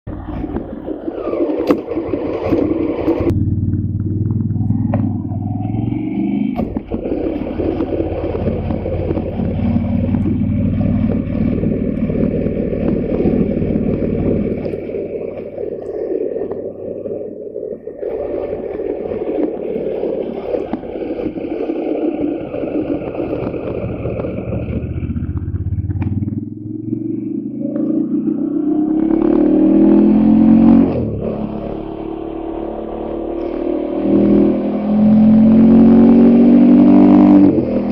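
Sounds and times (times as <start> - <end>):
motorcycle engine running: 0.1 - 37.9.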